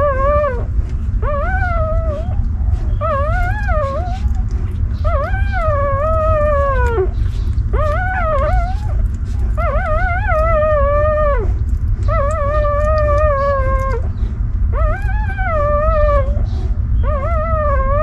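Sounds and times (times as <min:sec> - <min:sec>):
puppy whining cries: 0:00.0 - 0:18.0
steady low rumble: 0:00.0 - 0:18.0.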